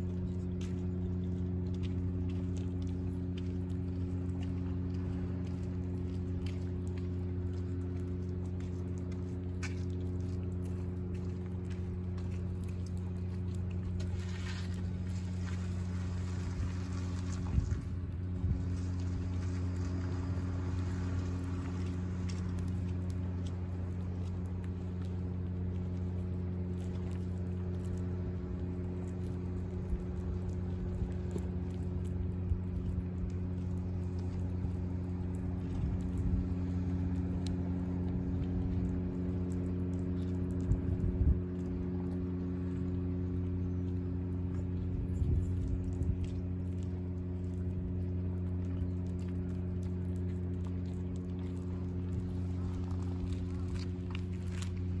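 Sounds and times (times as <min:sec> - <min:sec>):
cat chewing: 0:00.0 - 0:55.0
low mechanical hum: 0:00.0 - 0:55.0.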